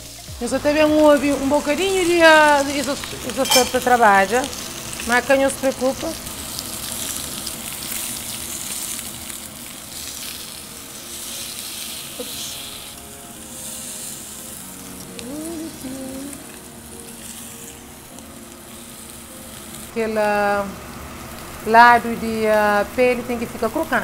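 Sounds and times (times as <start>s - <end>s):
fish sizzling on a grill pan: 0.0s - 24.0s.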